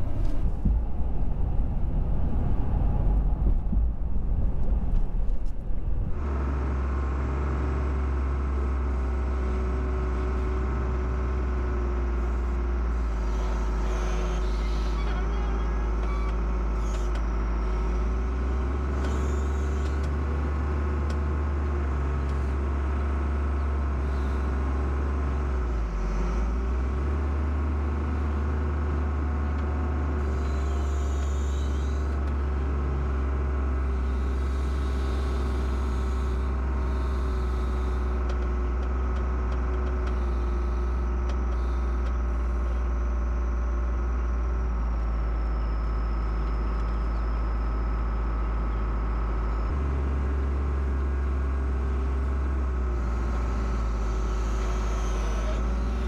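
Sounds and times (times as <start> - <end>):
loader engine droning: 0.0 - 56.0
road rumble in truck cab: 0.0 - 56.0.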